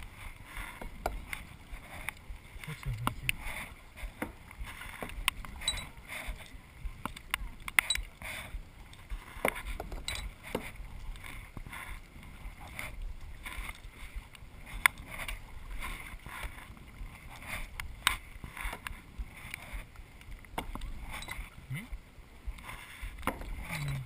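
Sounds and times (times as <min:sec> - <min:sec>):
paddle swishing through water: 0:00.0 - 0:24.0.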